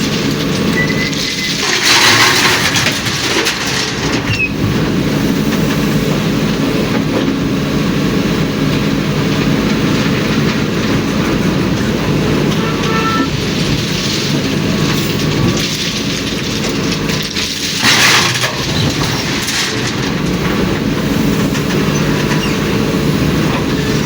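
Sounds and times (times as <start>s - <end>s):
diesel truck rattling rumble: 0.0s - 24.0s.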